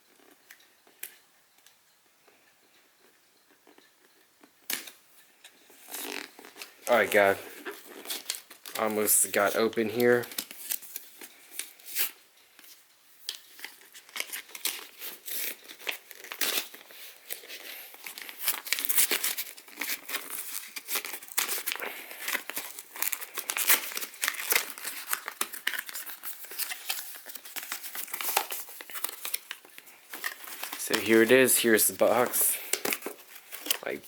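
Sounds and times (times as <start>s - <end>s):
packaging crinkling and tearing: 5.8s - 34.0s.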